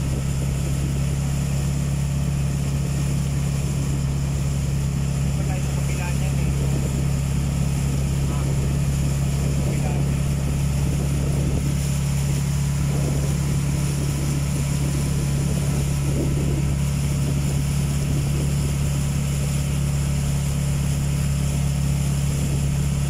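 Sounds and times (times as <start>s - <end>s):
motorboat engine droning: 0.0s - 23.0s.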